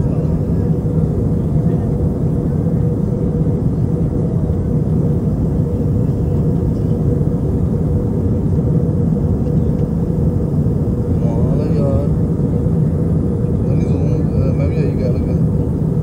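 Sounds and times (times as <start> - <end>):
airliner cabin low rumble: 0.0 - 16.0.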